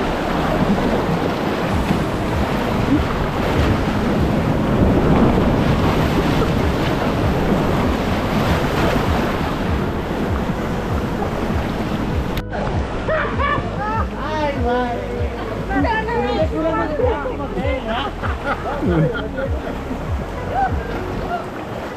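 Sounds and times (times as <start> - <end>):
river water rushing through rapids: 0.0 - 21.9
wind buffeting microphone: 0.0 - 21.9.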